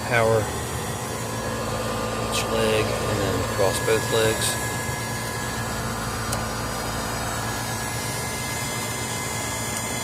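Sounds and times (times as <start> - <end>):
air conditioner unit humming: 0.0 - 10.0.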